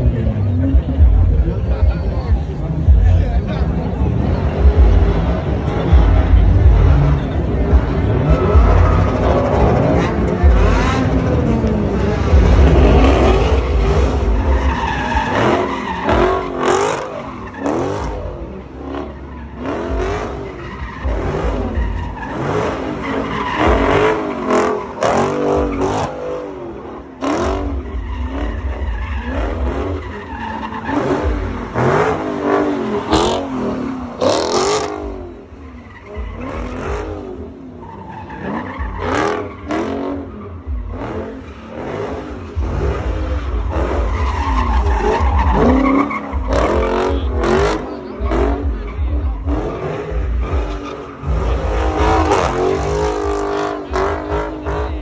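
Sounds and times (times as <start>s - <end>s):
car engine revving: 0.0s - 55.0s
tyres squealing on asphalt: 0.0s - 55.0s.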